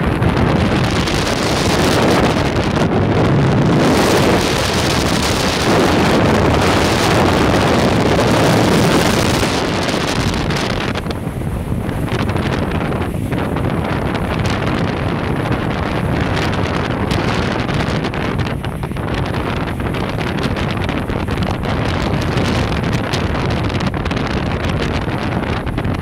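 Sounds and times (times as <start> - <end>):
water splashing along hull: 0.0 - 26.0
wind buffeting microphone: 0.0 - 26.0.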